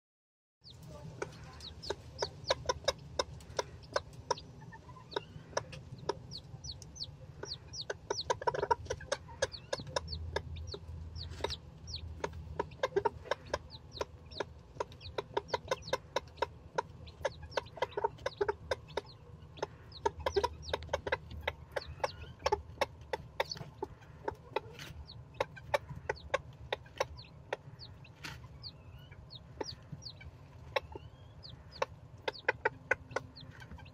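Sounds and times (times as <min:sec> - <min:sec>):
chicks peeping: 0:00.6 - 0:33.9
hen clucking: 0:00.6 - 0:33.9
steady low hum: 0:00.6 - 0:33.9.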